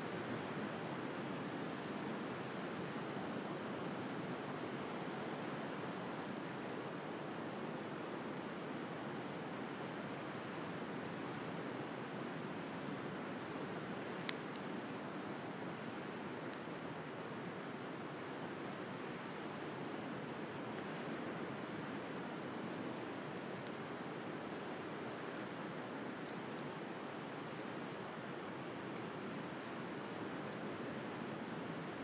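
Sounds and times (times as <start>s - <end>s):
bonfire crackling: 0.0s - 10.2s, 10.8s - 32.0s.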